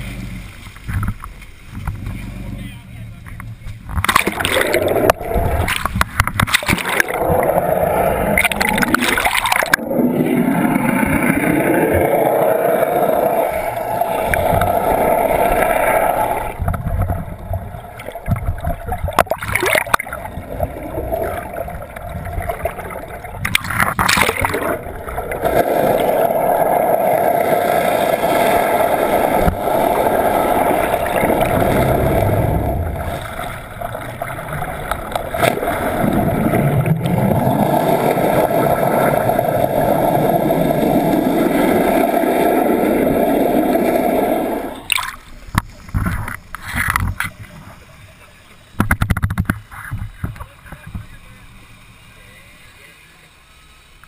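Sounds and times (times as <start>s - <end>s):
muffled underwater water rush: 0.0s - 54.0s.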